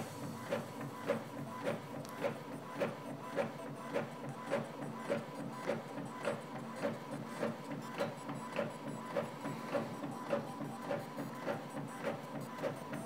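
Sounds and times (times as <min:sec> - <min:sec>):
inkjet printer carriage strokes: 0:00.0 - 0:13.0
printer mechanical hum: 0:00.0 - 0:13.0.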